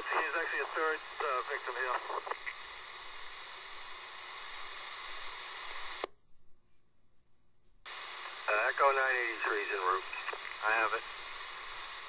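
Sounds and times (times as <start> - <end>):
police radio scanner hiss: 0.0 - 6.0, 7.9 - 12.0.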